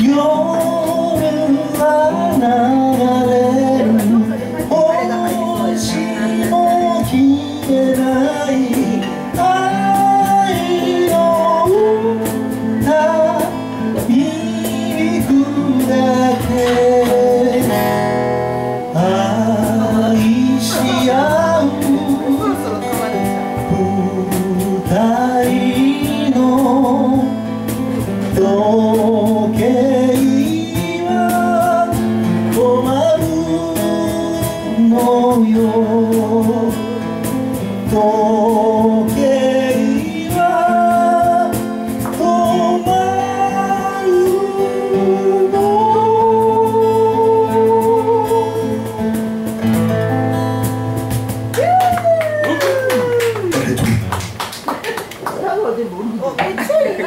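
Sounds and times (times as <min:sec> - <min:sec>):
man singing folk ballad: 0:00.0 - 0:50.6
acoustic guitar: 0:00.0 - 0:57.0.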